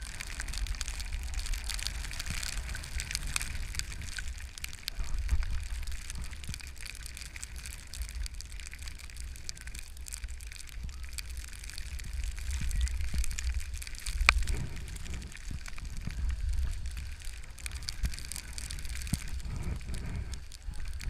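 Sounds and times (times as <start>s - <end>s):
skis scraping over packed snow: 0.0s - 21.0s
wind buffeting microphone: 0.0s - 21.0s.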